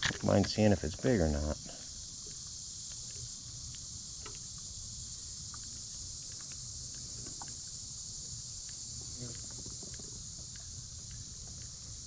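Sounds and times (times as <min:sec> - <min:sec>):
insects trilling: 0:00.0 - 0:12.0
faint ticks: 0:01.6 - 0:12.0.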